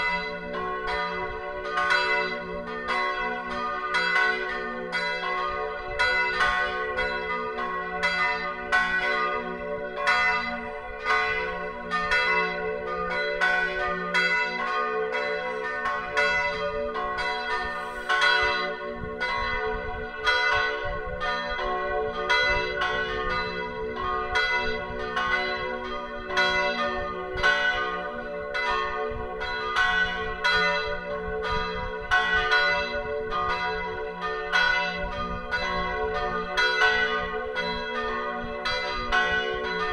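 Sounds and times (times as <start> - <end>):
church bells ringing: 0.0 - 39.9
sustained bell hum: 0.0 - 39.9.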